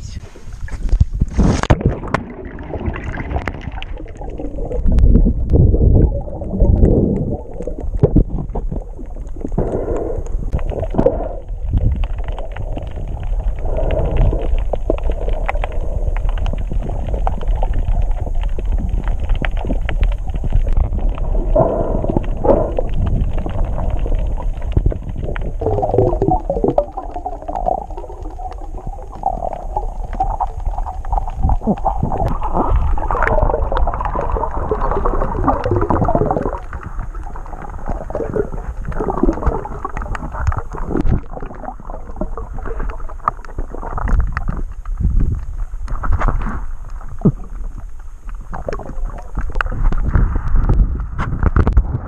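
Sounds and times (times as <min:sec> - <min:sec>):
gurgling bubbles: 0:00.0 - 0:52.0
underwater rush of water: 0:00.0 - 0:52.0
crackling clicks: 0:00.8 - 0:52.0.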